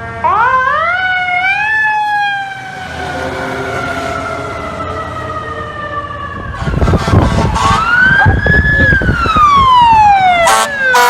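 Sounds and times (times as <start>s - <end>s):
fire truck siren wailing: 0.0s - 11.0s
truck passing rumble: 1.1s - 10.8s.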